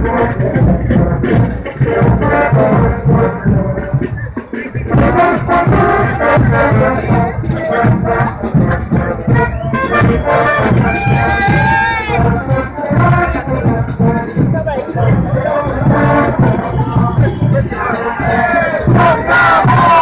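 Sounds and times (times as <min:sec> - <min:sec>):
brass band playing dance music: 0:00.0 - 0:20.0
steady drum beat: 0:00.0 - 0:20.0.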